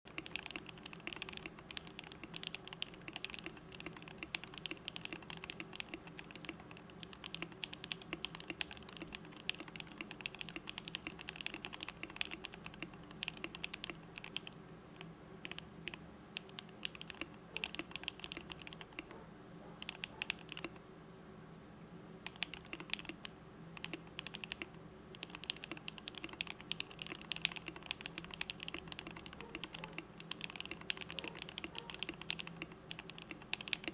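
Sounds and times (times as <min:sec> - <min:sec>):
mechanical keyboard typing: 0:00.1 - 0:14.6, 0:15.4 - 0:19.1, 0:19.8 - 0:20.8, 0:22.2 - 0:33.9.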